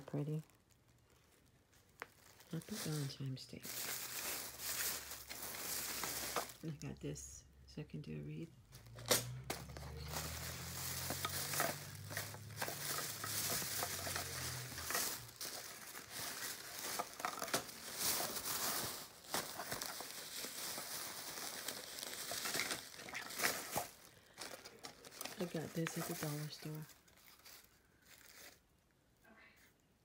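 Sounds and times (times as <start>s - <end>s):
plastic bags rustling: 0.0s - 7.0s, 8.7s - 28.7s.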